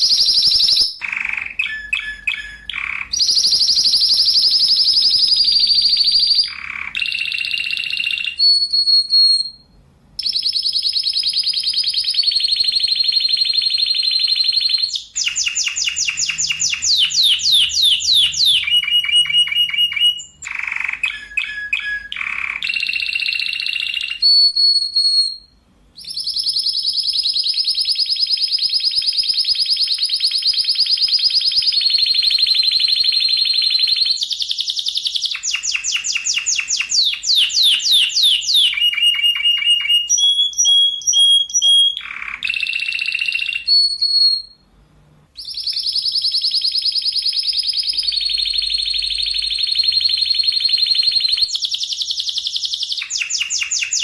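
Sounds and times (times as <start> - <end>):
canary singing: 0.0 - 44.7, 45.4 - 54.0.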